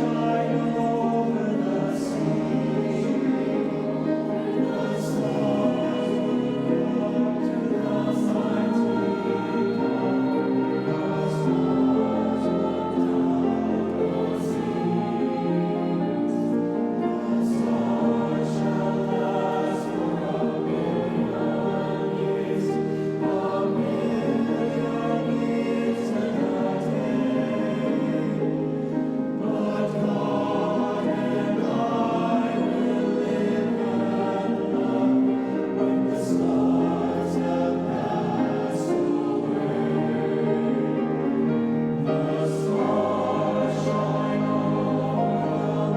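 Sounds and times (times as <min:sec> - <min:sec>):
youth choir singing: 0:00.0 - 0:45.9.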